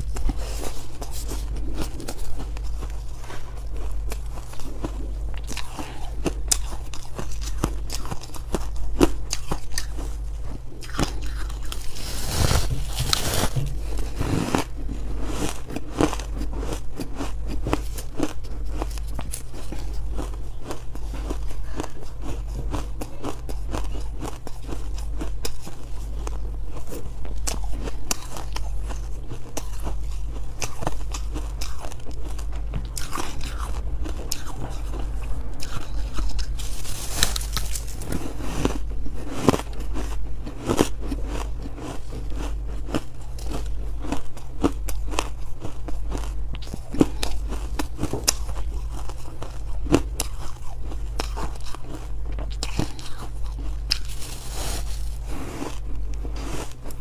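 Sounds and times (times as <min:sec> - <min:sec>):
crunching and chewing ice: 0:00.0 - 0:57.0
low hum: 0:00.0 - 0:57.0.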